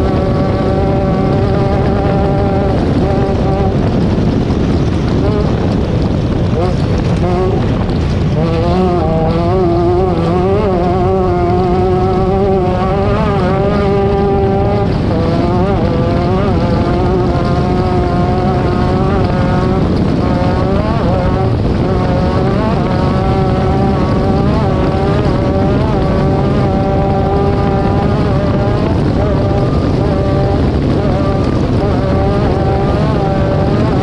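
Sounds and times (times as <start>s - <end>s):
race vehicle engine revving: 0.0s - 34.0s.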